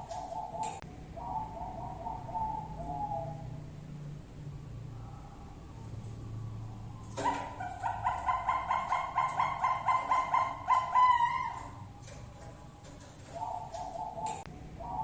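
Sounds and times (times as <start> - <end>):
dove cooing: 0.0 - 4.0, 4.6 - 15.0.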